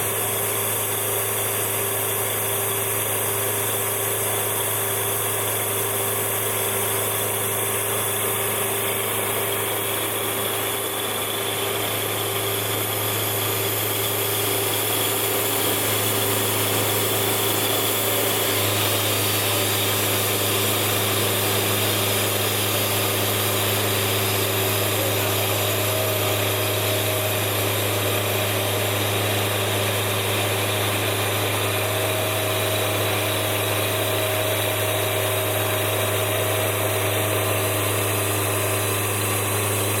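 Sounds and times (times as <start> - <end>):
engine running with low hum: 0.0 - 40.0.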